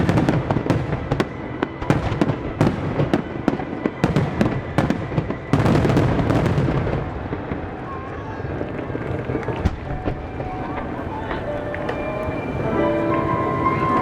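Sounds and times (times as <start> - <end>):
fireworks bursting with sharp bangs: 0.0 - 14.0
fireworks crackling volley: 0.0 - 14.0.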